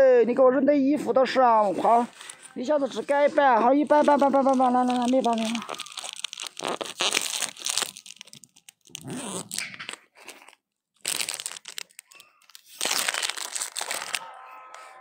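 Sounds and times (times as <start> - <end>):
close crunching and rustling: 1.6 - 14.3.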